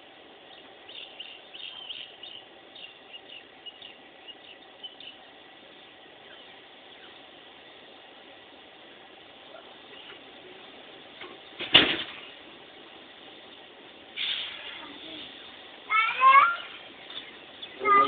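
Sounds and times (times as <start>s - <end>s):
faint background noise: 0.0s - 18.0s
small birds chirping: 0.0s - 18.0s.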